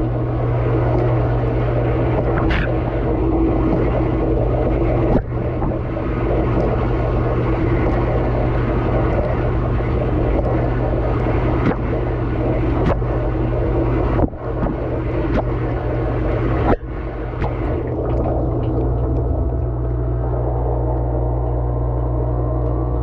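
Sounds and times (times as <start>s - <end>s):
dishwasher pump humming: 0.0s - 23.0s
water spraying: 0.6s - 19.9s.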